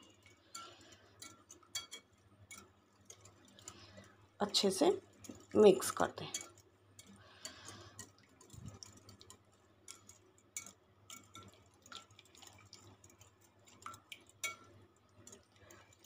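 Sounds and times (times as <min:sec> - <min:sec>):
whisk tapping glass bowl: 0:00.0 - 0:03.8, 0:04.9 - 0:16.0.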